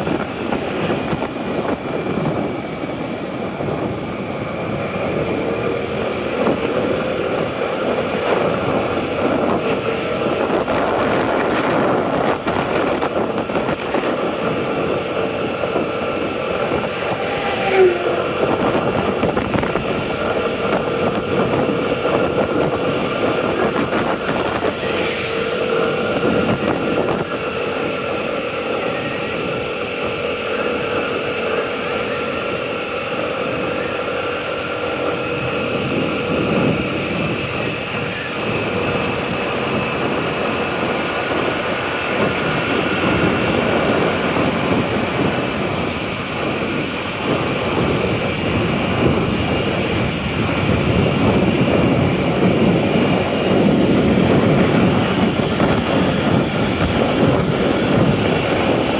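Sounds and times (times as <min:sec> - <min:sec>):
motorbike engine humming: 0:00.0 - 0:58.9
wind and road noise: 0:00.0 - 0:58.9.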